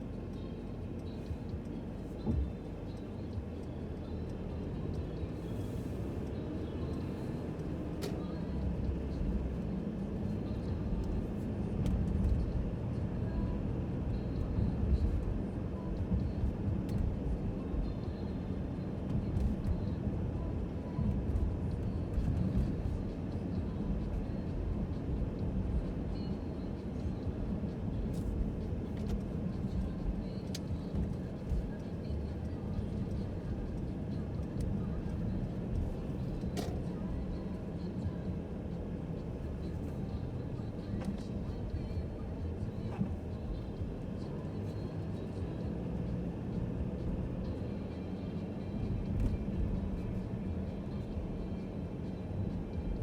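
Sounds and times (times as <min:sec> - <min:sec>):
car engine drone: 0:00.0 - 0:53.0
road and tyre rumble: 0:00.0 - 0:53.0.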